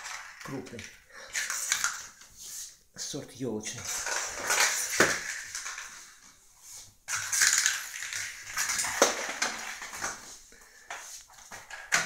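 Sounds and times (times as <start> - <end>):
walnut rolling on tile floor: 0.0 - 2.3, 3.8 - 6.4, 7.0 - 12.0.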